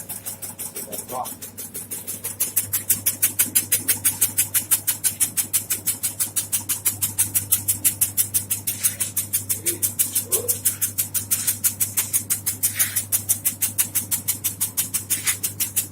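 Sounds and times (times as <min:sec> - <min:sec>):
shredding machine blade chopping: 0:00.0 - 0:15.9
steady motor hum: 0:00.0 - 0:15.9.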